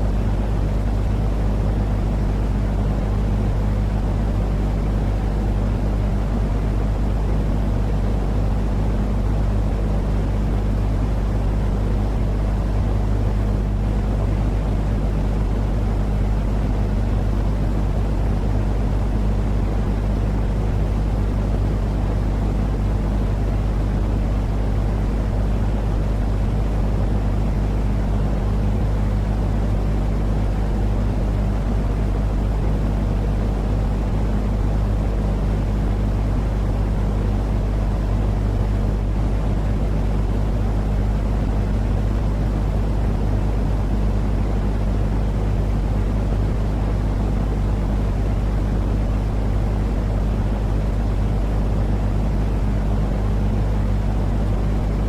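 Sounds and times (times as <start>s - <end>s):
constant hum: 0.0s - 55.0s.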